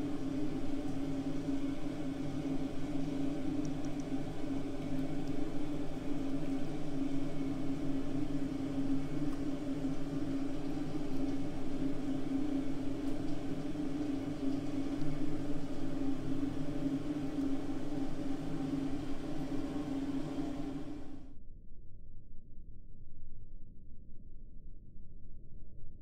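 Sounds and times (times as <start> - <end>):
appliance motor humming: 0.0 - 21.2.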